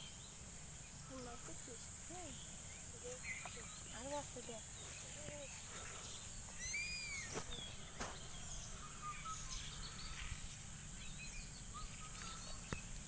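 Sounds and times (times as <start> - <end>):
birds chirping: 0.0 - 13.0
insect drone: 0.0 - 13.0.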